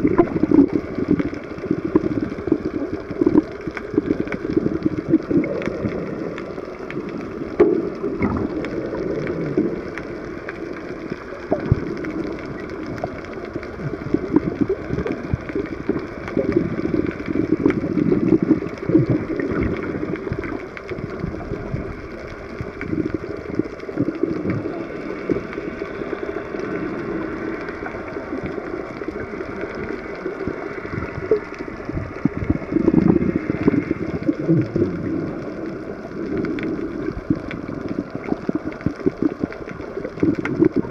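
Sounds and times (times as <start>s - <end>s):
faint crackles: 0.0s - 40.9s
muffled underwater rush: 0.0s - 40.9s.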